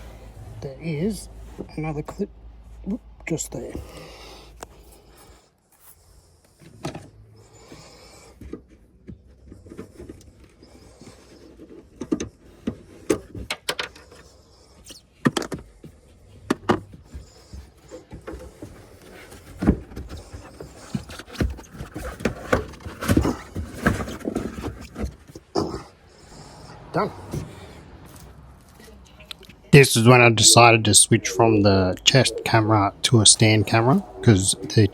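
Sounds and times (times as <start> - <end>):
carpet rustling: 0.0 - 30.8.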